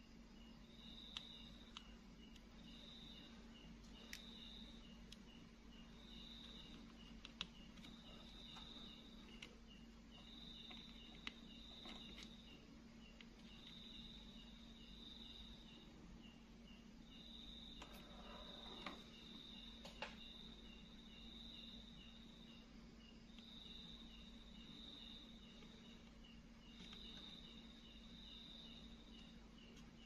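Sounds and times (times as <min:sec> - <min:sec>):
insect chirping steadily: 0:00.0 - 0:30.0
low steady hum: 0:00.0 - 0:30.0.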